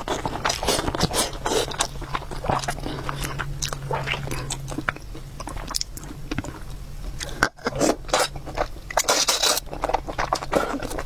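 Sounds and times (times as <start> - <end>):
chewing and biting: 0.0 - 11.0.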